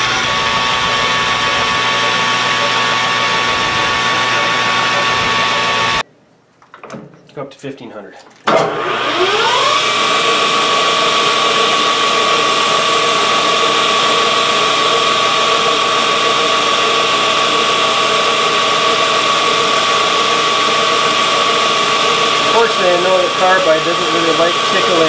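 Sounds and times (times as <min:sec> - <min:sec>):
metal lathe whine: 0:00.0 - 0:06.0, 0:08.6 - 0:25.0.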